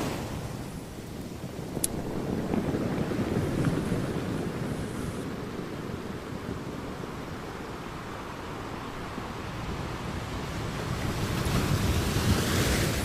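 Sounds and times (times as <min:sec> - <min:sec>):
ocean surf washing onto beach: 0:00.0 - 0:13.0
wind on microphone: 0:00.0 - 0:13.0.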